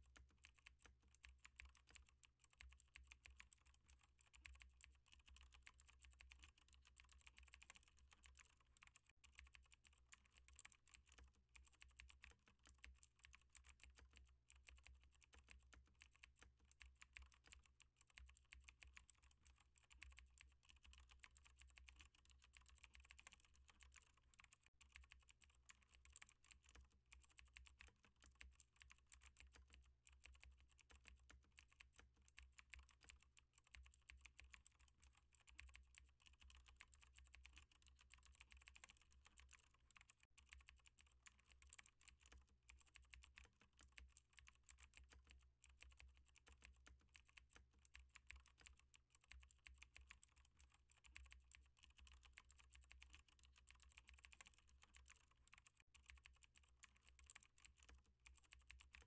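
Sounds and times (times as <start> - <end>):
computer keyboard key clicks: 0.1 - 59.0.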